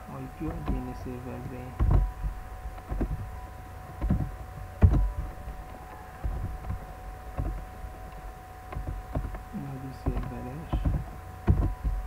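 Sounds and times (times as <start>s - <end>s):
faint electrical whine: 0.0s - 12.0s.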